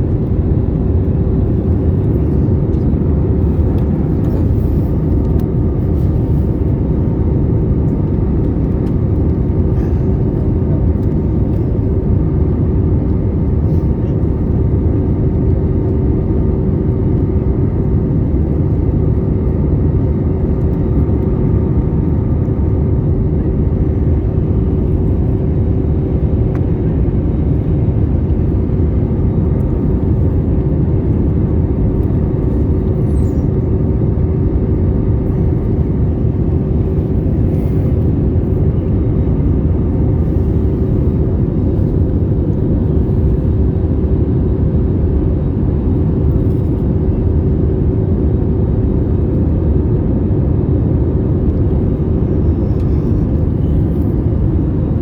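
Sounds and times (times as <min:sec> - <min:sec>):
constant hum: 0:00.0 - 0:55.0
jet engines droning: 0:00.0 - 0:55.0
rushing air in cabin: 0:00.0 - 0:55.0.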